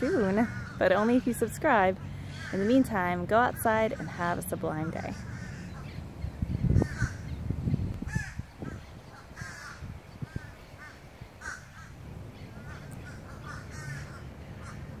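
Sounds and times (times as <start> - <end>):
birds calling: 0.0 - 15.0
low rumble on the microphone: 0.0 - 15.0.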